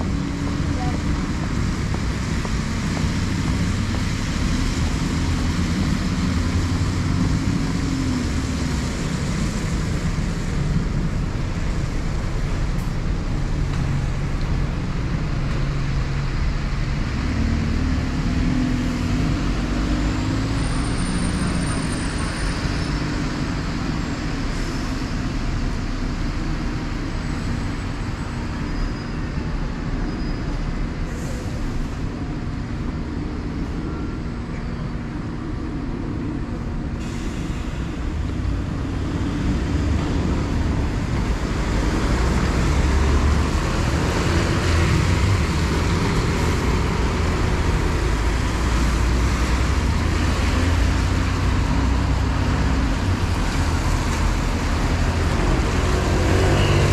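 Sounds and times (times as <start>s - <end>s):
bus engines running: 0.0s - 56.9s
tyres hissing on wet road: 0.0s - 56.9s.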